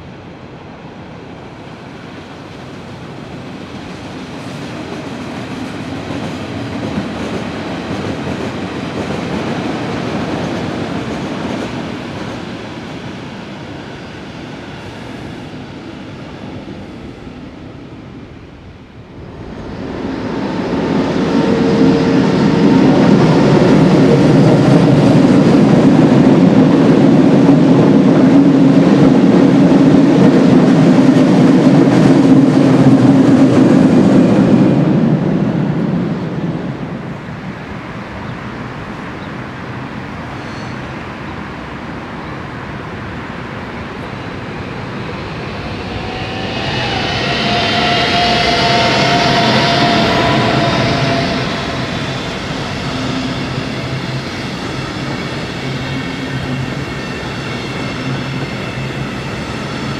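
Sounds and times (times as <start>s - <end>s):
distant train rail noise: 0.0s - 59.9s
train rumble on viaduct: 0.0s - 59.9s.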